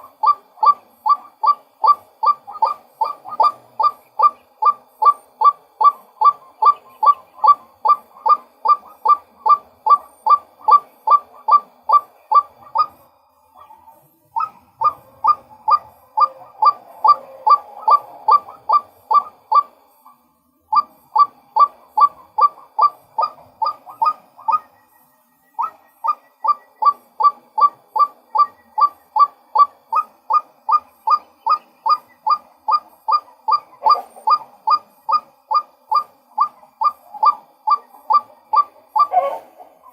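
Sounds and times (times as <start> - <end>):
waterhen calling kwak notes: 0.0 - 13.0, 14.4 - 19.8, 20.7 - 24.9, 25.6 - 39.9.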